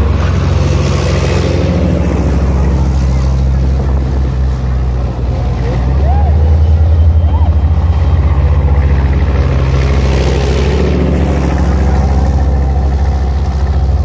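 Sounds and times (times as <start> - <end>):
tank diesel engine running: 0.0 - 14.0.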